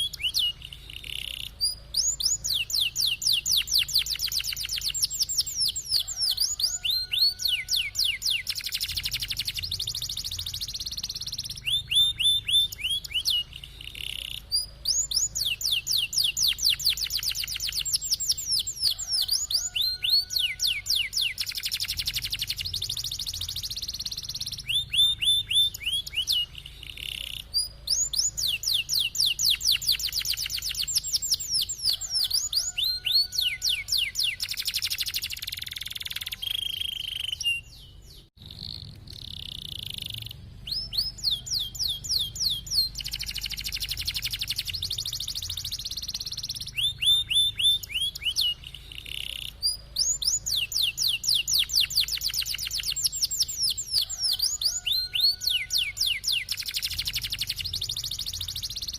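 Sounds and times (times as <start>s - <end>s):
canary singing rolling trills: 0.0s - 58.9s.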